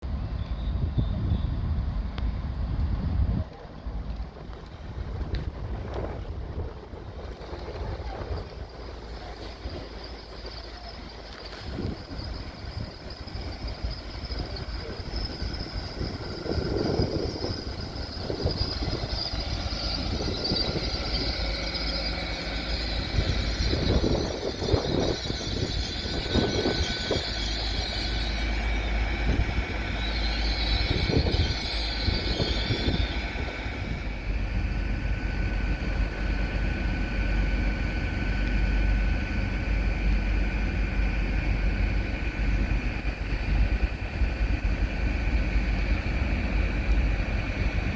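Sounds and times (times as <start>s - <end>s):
train rumble: 0.0s - 47.9s
steady high whine: 4.9s - 47.9s.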